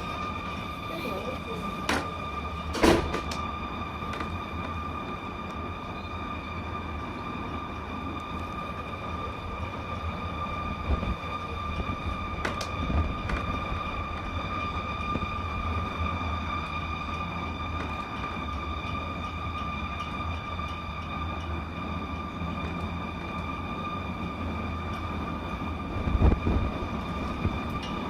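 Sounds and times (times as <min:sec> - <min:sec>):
high-pitched whine: 0:00.0 - 0:28.0.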